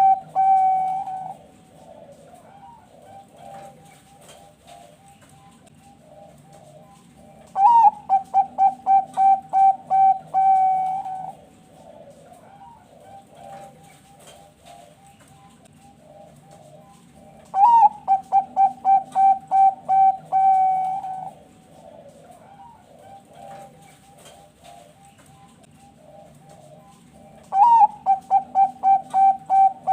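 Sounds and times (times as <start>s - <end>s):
dove song of quick coos: 0.0s - 29.9s
faint dove cooing: 0.0s - 29.9s.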